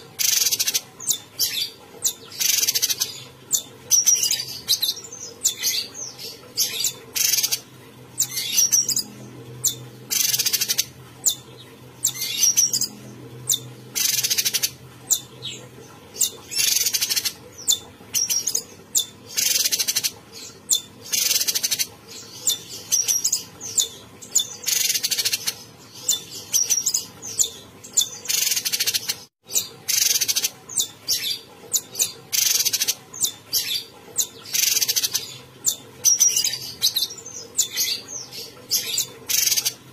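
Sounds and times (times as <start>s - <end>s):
bird singing high calls: 0.2s - 7.6s, 8.2s - 39.8s.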